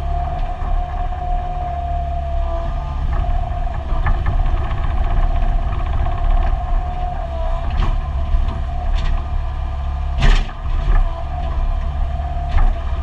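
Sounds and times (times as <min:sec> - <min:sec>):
diesel engine running under load: 0:00.0 - 0:13.0
hydraulic whine: 0:00.0 - 0:13.0.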